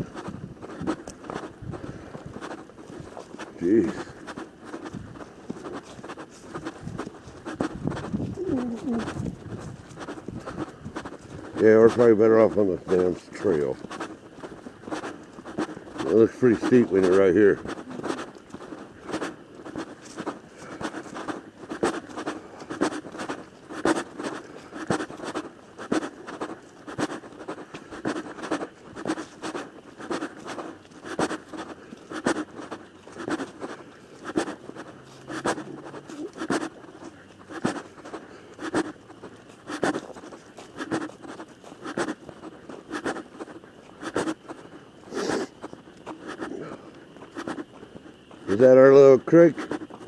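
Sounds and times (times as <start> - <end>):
footsteps crunching on leaf litter: 0.0 - 50.0.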